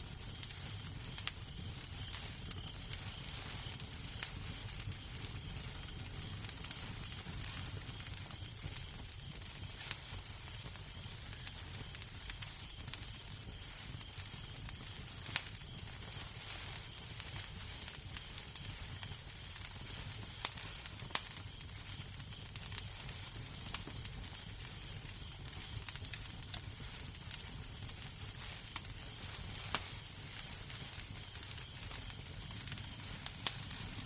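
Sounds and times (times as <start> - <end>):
wood fire burning: 0.0 - 34.0.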